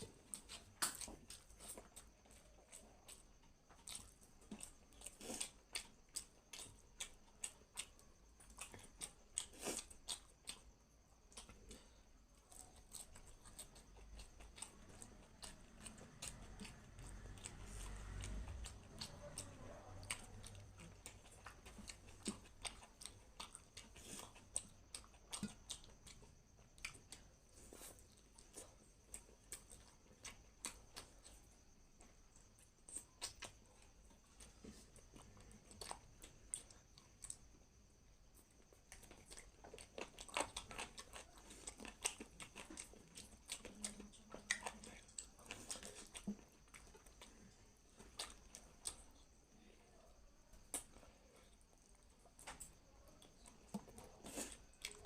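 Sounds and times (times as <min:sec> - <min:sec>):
person chewing food: 0:00.0 - 0:49.7, 0:50.5 - 0:55.0.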